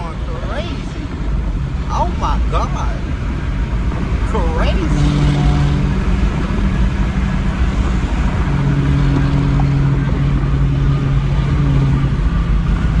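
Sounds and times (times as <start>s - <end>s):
low engine drone: 0.0s - 13.0s
road and wind noise: 0.0s - 13.0s.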